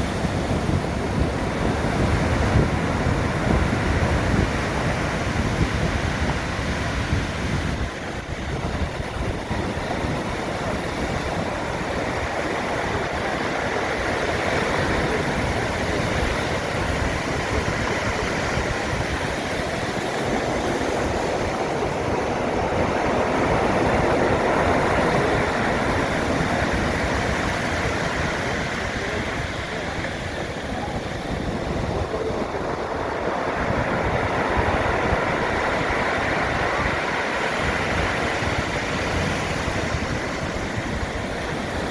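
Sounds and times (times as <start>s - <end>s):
breaking waves roaring: 0.0s - 41.9s
wind buffeting microphone: 0.0s - 41.9s.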